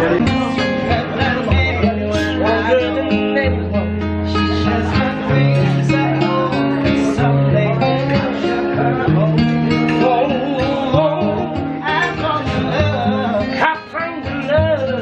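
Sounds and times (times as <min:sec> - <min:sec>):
men singing with vibrato: 0:00.0 - 0:03.6, 0:04.2 - 0:15.0
acoustic guitar: 0:00.0 - 0:15.0.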